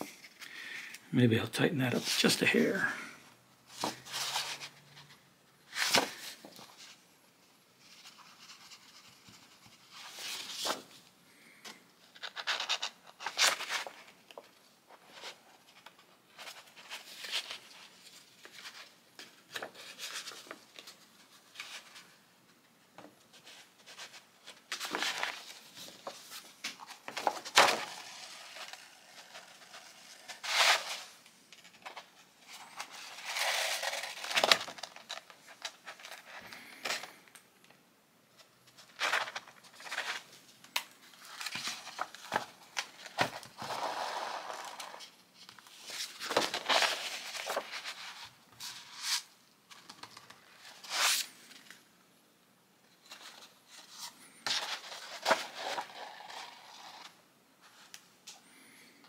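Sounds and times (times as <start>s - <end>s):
paper and thread rustling: 3.7s - 22.3s, 23.2s - 37.2s, 38.6s - 51.8s, 52.9s - 58.0s.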